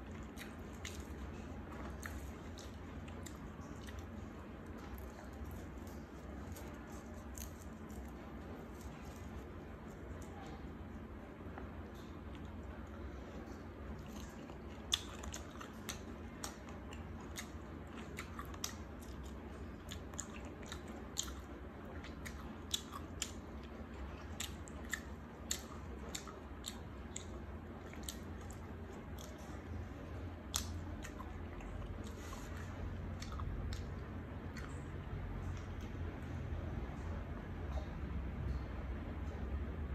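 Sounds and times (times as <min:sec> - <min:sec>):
person chewing food: 0:00.0 - 0:36.1
steady low hum: 0:00.0 - 0:39.9.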